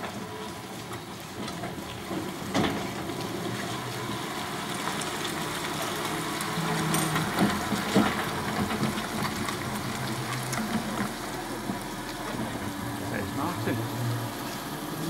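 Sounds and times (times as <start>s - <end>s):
trolleybus running: 0.0s - 15.0s.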